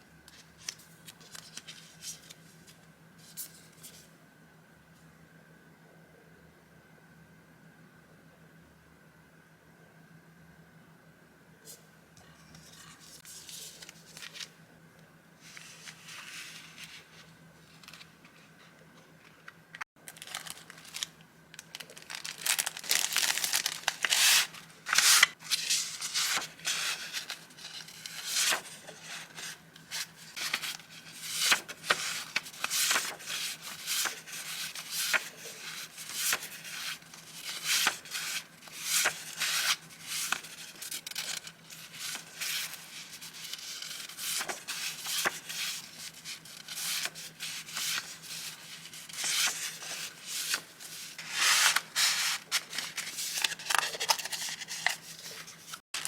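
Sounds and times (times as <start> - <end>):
paper rustling and crinkling: 0.3 - 4.1, 12.3 - 14.6, 15.4 - 19.4, 20.0 - 56.0.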